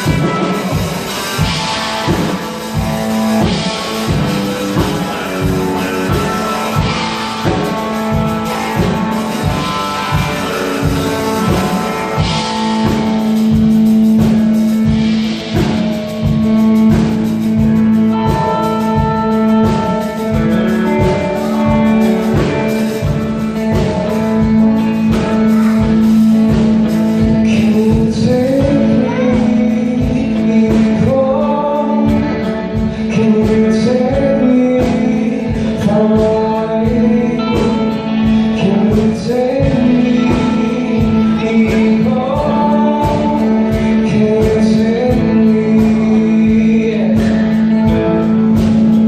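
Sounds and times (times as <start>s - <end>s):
drum kit steady beat: 0.0s - 49.0s
electric guitars: 0.0s - 49.0s.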